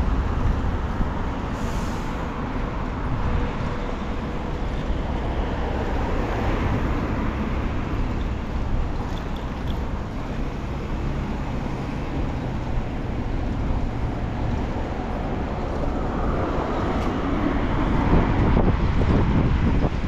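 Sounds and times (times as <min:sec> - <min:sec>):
passing traffic rumble: 0:00.0 - 0:20.0.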